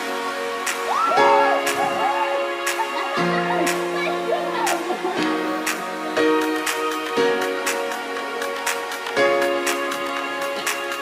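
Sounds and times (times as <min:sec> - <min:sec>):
background music with held chords: 0:00.0 - 0:11.0.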